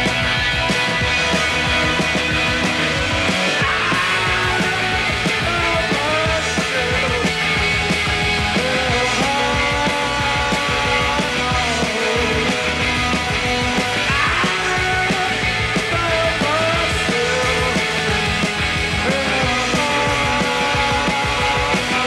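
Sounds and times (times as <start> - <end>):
electric guitar: 0.0 - 22.0
steady drum beat: 0.0 - 22.0.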